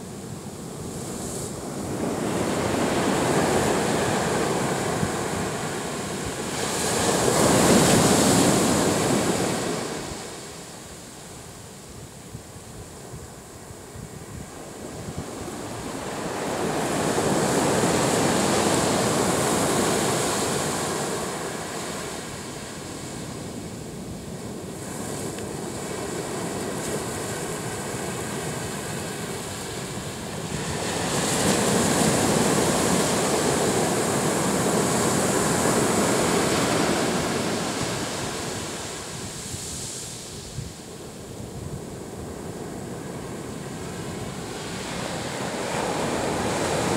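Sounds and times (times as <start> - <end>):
surf breaking on a beach: 0.0 - 46.9.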